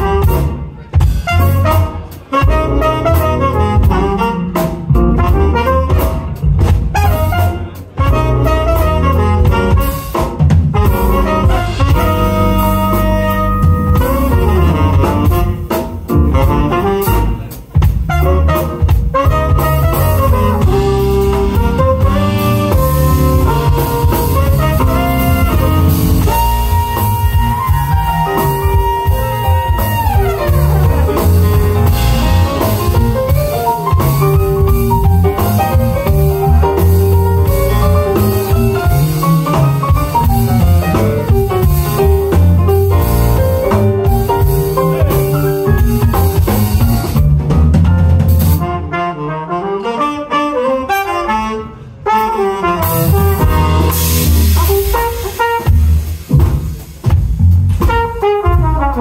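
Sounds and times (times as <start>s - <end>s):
trumpet playing lead: 0.0s - 47.2s, 48.3s - 56.5s, 57.8s - 59.0s
electric bass: 0.0s - 49.2s, 50.7s - 59.0s
drum kit: 0.0s - 59.0s.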